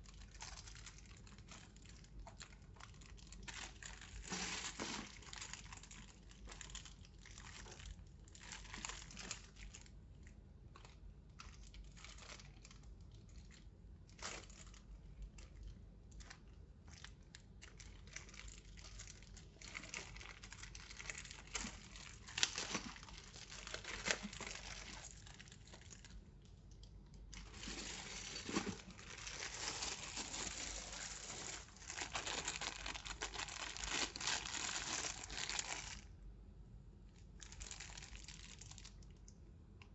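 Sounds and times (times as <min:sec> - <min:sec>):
packaging crinkling: 0:00.0 - 0:10.0, 0:10.8 - 0:36.1, 0:37.2 - 0:39.1.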